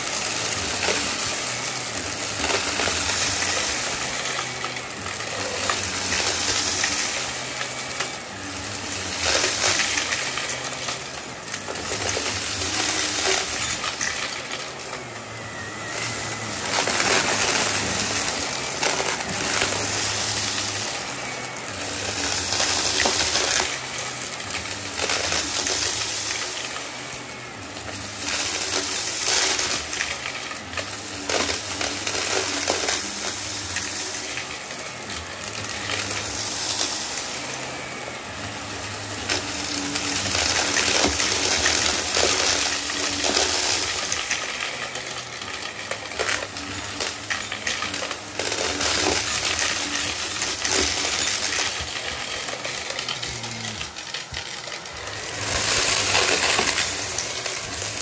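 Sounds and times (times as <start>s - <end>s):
debris rattling up vacuum: 0.0s - 58.0s
vacuum cleaner motor whirring: 0.0s - 58.0s.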